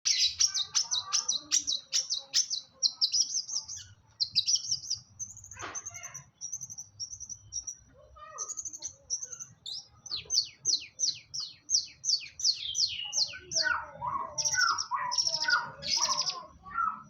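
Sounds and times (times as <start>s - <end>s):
shrike chirping: 0.0s - 17.0s.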